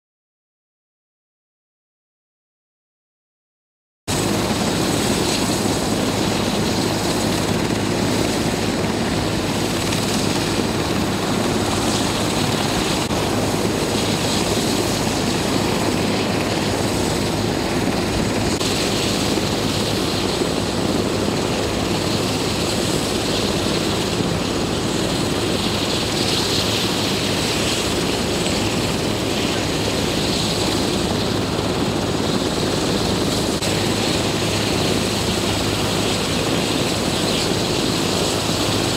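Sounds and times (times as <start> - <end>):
helicopter engine and rotor: 4.1 - 38.9.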